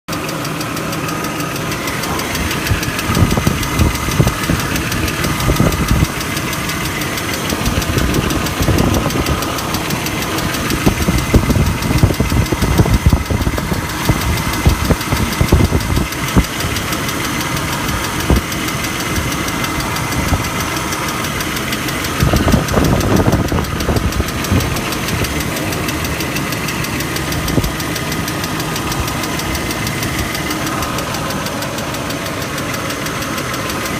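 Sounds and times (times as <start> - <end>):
car engine droning: 0.1 - 33.9
fast steady ticking: 0.1 - 33.9
irregular low rumbles: 0.1 - 33.9.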